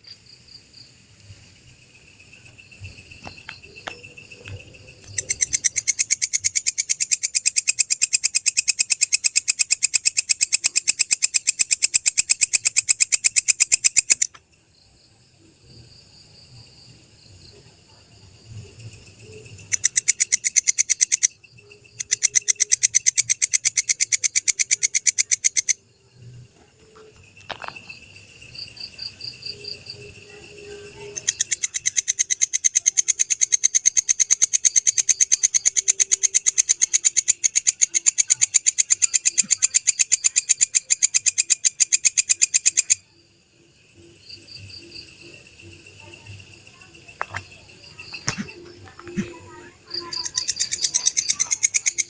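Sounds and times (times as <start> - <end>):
insect rapid clicking pulses: 0.0 - 52.0
soft pulsing insect chirps: 0.0 - 52.0.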